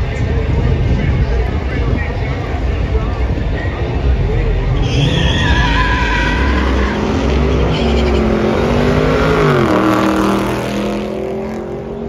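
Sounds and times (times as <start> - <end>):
car engine running loud: 0.0 - 12.0.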